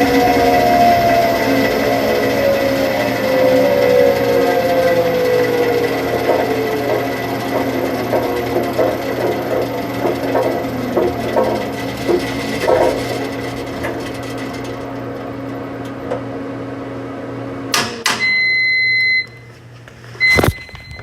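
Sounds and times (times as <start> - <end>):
washing machine humming: 0.0 - 19.9.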